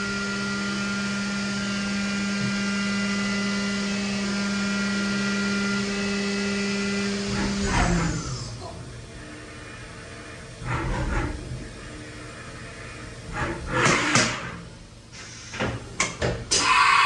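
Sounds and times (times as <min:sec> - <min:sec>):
machining center running: 0:00.0 - 0:17.0.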